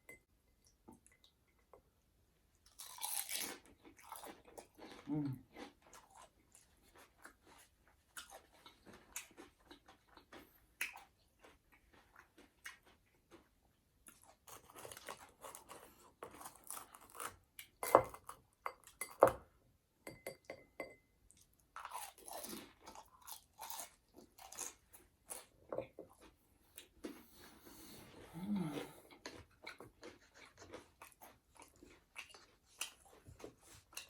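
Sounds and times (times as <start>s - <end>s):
chewing noodles: 2.7s - 17.8s, 21.4s - 34.0s.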